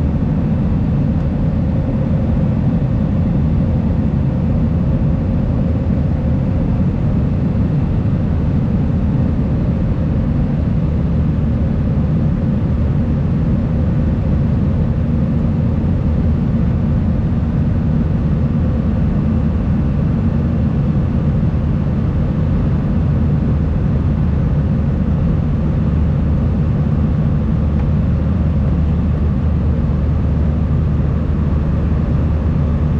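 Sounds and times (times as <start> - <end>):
jet engines and airflow roar: 0.0 - 32.9.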